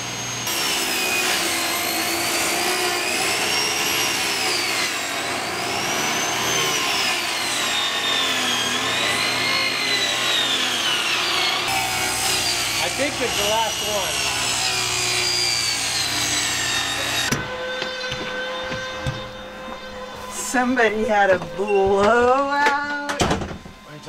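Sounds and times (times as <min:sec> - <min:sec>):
table saw cutting plywood: 0:00.0 - 0:24.0.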